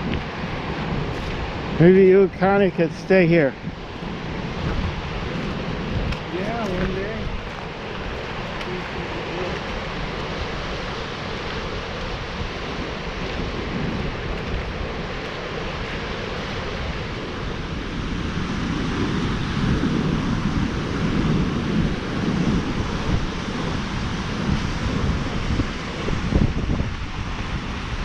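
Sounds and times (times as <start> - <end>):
steady rushing noise: 0.0 - 28.0
wind buffeting microphone: 0.0 - 28.0.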